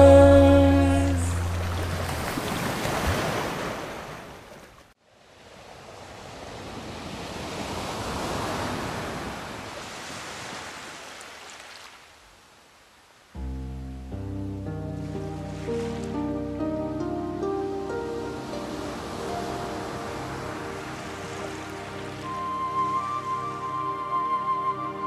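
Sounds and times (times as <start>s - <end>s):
ocean waves washing in: 0.0s - 25.0s.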